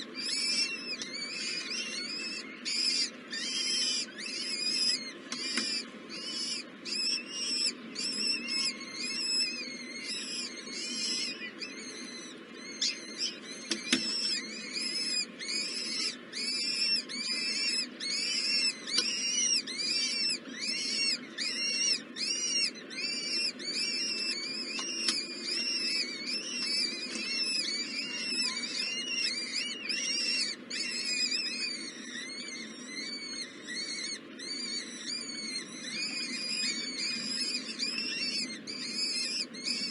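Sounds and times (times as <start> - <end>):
baby birds chirping: 0.0 - 39.9.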